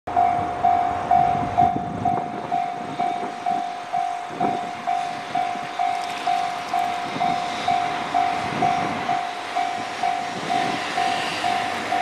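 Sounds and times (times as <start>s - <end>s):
level-crossing warning alarm: 0.1s - 12.0s.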